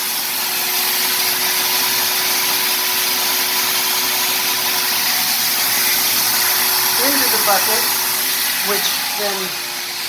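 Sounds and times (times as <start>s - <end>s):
shop vacuum running: 0.0s - 10.0s.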